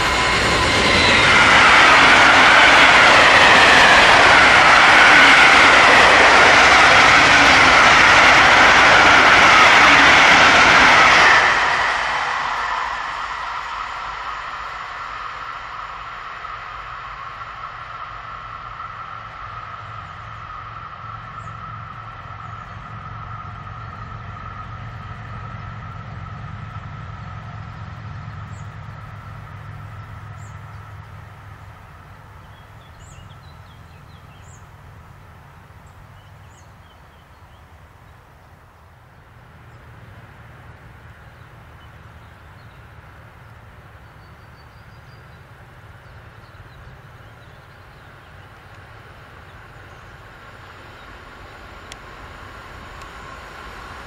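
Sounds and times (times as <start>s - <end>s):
electric train rumble and whine: 0.0s - 54.0s.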